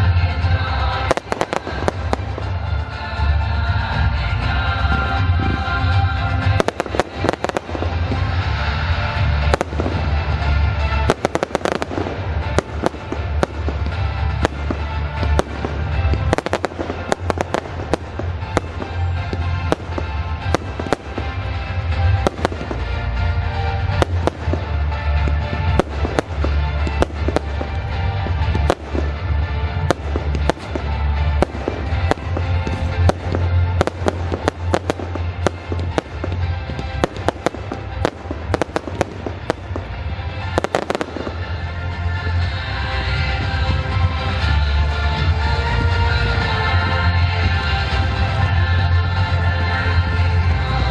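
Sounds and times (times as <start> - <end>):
fireworks bangs and crackling: 0.0 - 50.9
music with heavy bass: 0.0 - 50.9.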